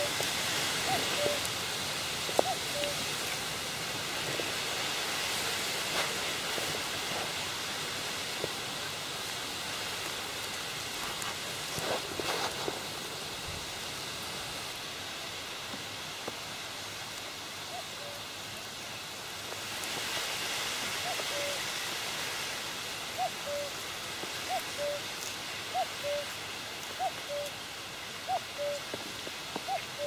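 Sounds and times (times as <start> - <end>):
wind and water hiss: 0.0 - 30.0.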